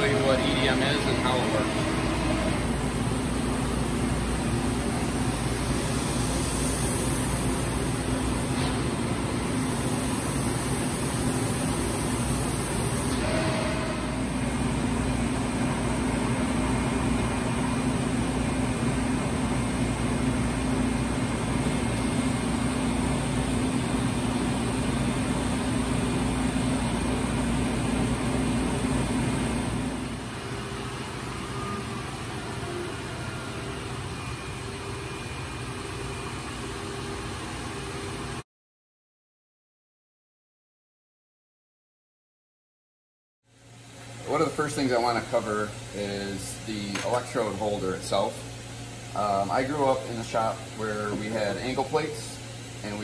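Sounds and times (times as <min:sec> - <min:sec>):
shop machinery droning: 0:00.0 - 0:38.4, 0:43.5 - 0:53.0.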